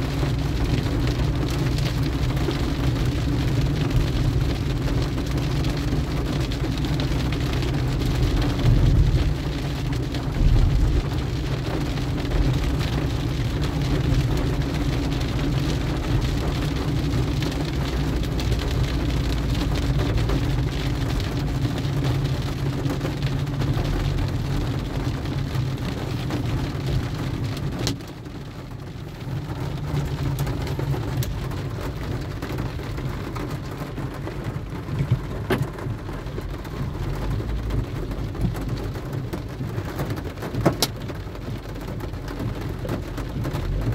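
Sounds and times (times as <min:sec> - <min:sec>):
engine and tyres rumbling on wet road: 0:00.0 - 0:43.9
rain falling on a car: 0:00.0 - 0:43.9.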